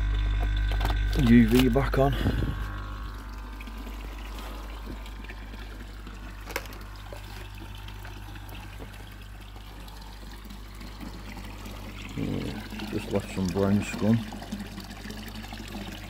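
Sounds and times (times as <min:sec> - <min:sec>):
constant low hum: 0:00.0 - 0:16.0
pond water trickling: 0:00.0 - 0:16.0.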